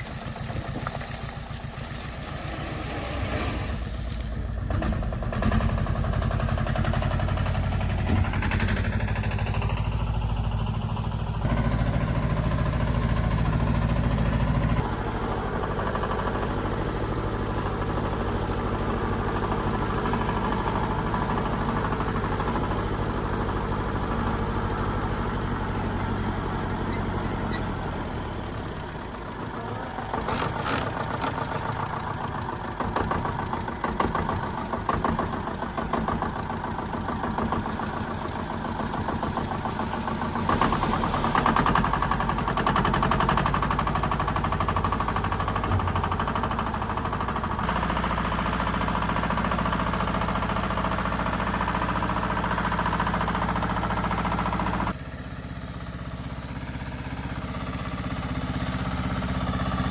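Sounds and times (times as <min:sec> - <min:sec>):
heavy machine diesel engine: 0:00.0 - 0:59.9.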